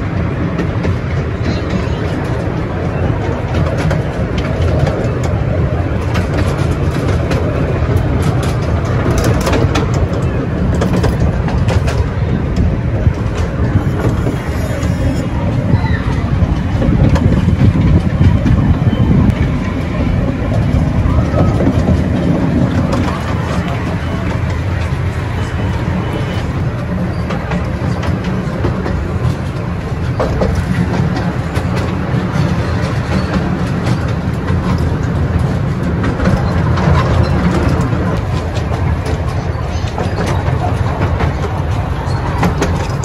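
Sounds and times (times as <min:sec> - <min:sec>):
train engine and wheels rumbling: 0:00.0 - 0:43.0.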